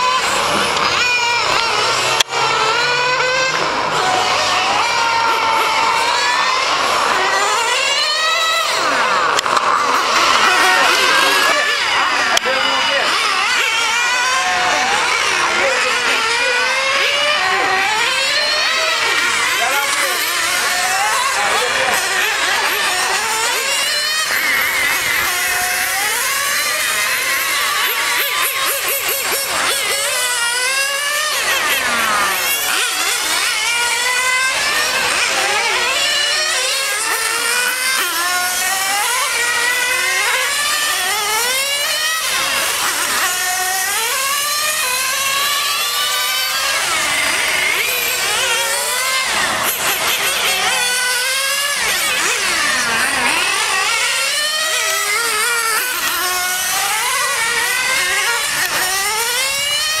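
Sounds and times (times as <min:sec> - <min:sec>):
model engine revving: 0:00.0 - 1:00.0.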